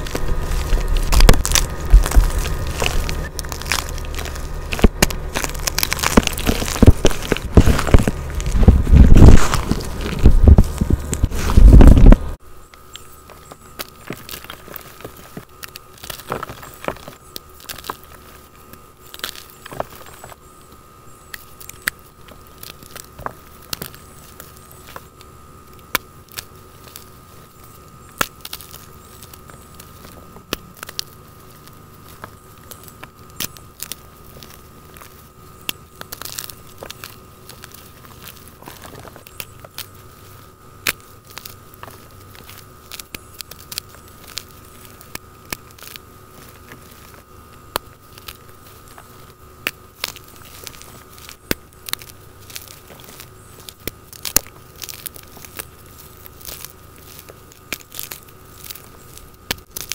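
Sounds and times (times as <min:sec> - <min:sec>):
wet chalk crunching: 0:00.0 - 0:12.4, 0:13.0 - 0:59.9
dry chalk crumbling: 0:00.0 - 0:59.9.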